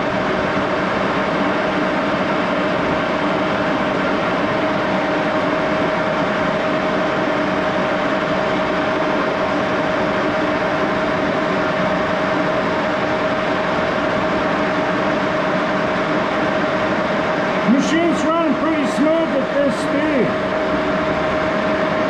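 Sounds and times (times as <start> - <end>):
lathe running with whine: 0.0 - 22.0.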